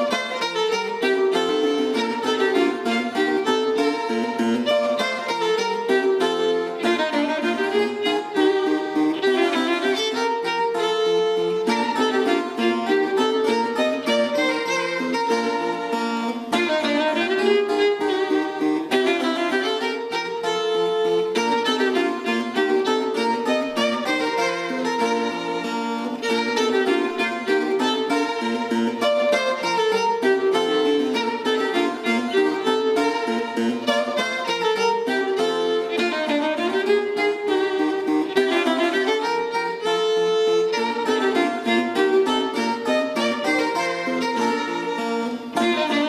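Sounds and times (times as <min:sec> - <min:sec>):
bowed violin: 0:00.0 - 0:46.0
spinet notes: 0:00.0 - 0:46.0.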